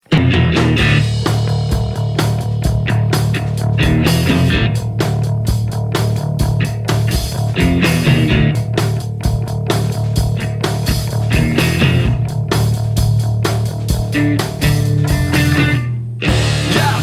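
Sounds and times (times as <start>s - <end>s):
punk rock band instrumental: 0.0s - 17.0s
drum hits: 0.1s - 17.0s.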